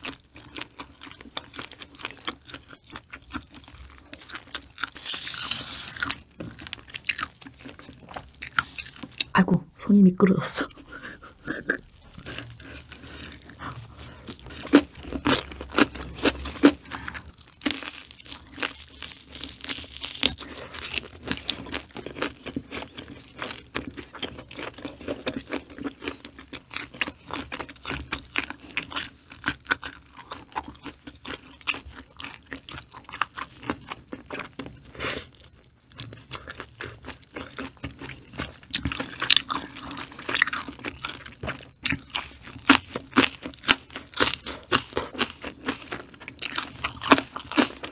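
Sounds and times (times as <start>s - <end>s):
chewing crunchy food: 0.0s - 9.4s, 10.6s - 47.9s.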